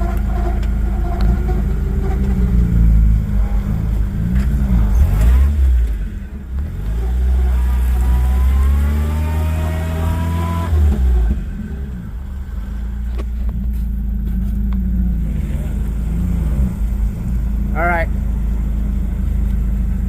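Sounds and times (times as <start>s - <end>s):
truck engine revving with whine: 0.0s - 20.0s.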